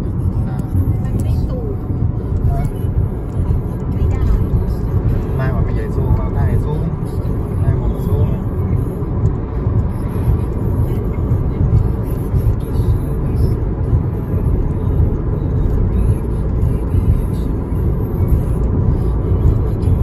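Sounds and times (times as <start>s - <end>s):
car interior road and engine rumble: 0.0s - 20.0s.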